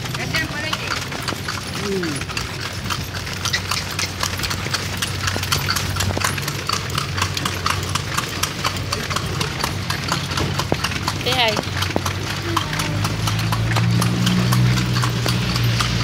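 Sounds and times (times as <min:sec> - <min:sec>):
horse hooves on pavement: 0:00.0 - 0:16.0
low rumble of carriage: 0:00.0 - 0:16.0.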